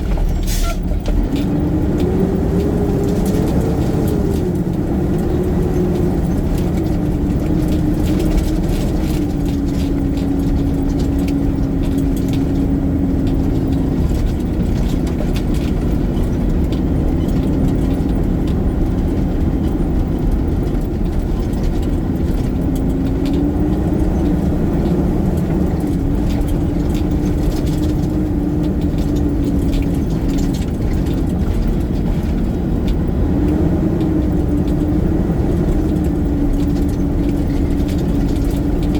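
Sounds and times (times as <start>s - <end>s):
garbage truck engine running: 0.0s - 38.9s
light rattles: 0.0s - 38.9s.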